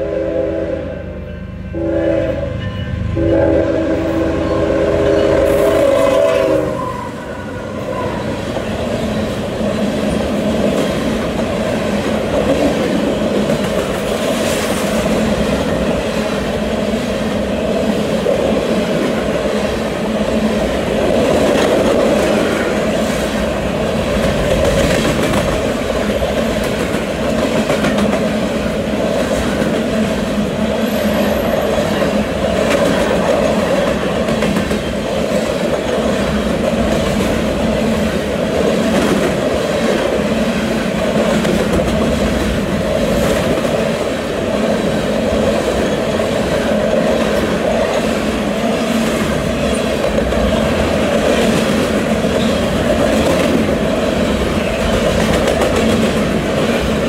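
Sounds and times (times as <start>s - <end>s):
freight train rumbling: 0.0s - 57.0s
train wheel clatter: 8.2s - 57.0s.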